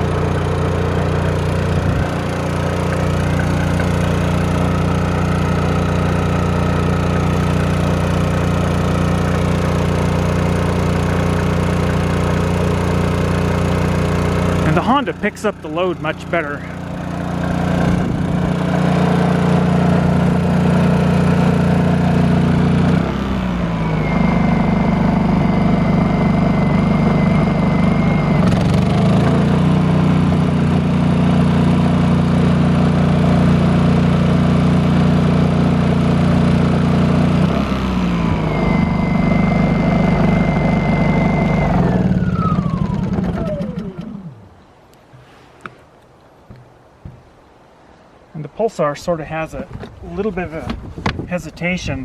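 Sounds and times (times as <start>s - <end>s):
generator engine running: 0.0s - 45.8s
high steady whine: 0.0s - 45.8s.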